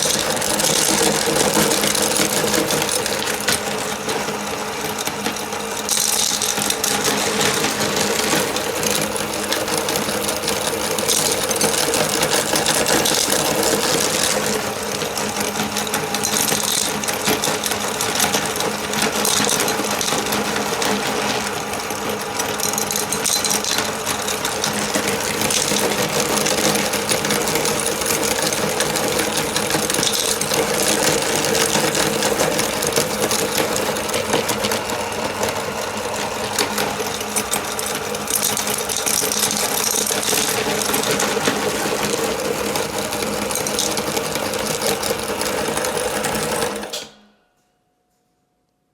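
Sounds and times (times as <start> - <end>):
candy crushing crackle: 0.0 - 46.8
meat grinder motor humming: 0.0 - 47.1.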